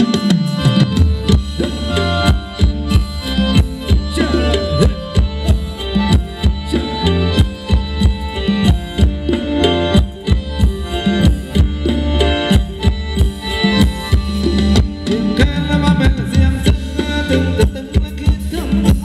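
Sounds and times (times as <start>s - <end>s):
heavy bass: 0.0s - 19.0s
live band playing dance music: 0.0s - 19.0s
steady drum beat: 0.0s - 19.0s.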